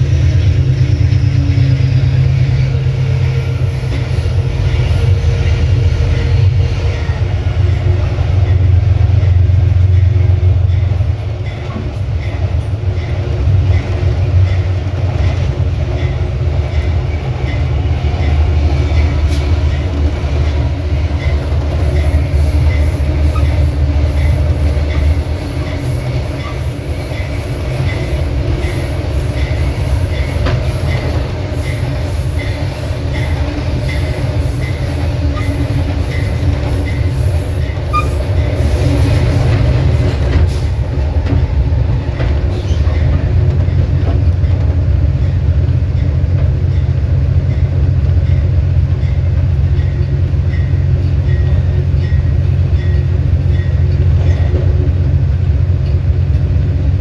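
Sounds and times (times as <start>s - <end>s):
diesel locomotive engine running: 0.0s - 57.0s
wheels rumbling on rail: 0.0s - 57.0s.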